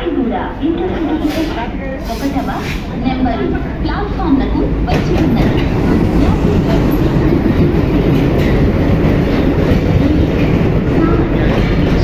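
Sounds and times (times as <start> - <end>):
diesel locomotive rumble: 0.1 - 12.0
train coaches rolling past: 0.1 - 12.0.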